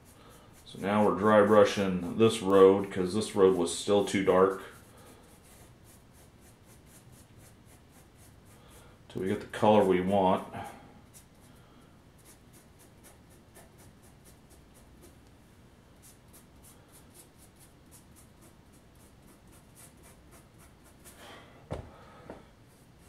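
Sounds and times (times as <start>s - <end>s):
scratchy paintbrush strokes: 0.0s - 21.2s, 22.5s - 23.0s.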